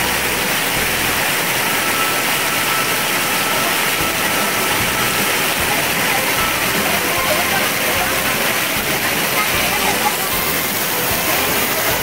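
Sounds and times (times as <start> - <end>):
heavy rain on a metal roof: 0.0 - 12.0.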